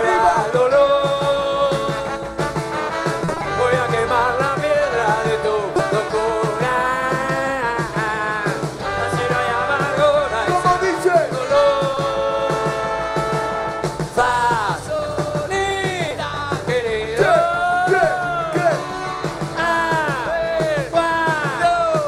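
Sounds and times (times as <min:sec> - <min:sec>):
sliding lead guitar notes: 0:00.0 - 0:21.9
rock band playing live: 0:00.0 - 0:22.0.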